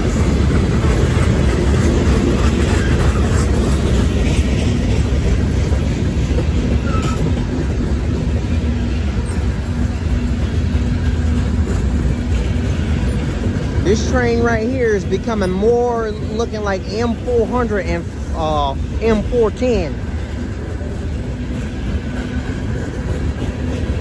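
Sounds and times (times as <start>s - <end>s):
steel wheels rumbling on rails: 0.0s - 24.0s.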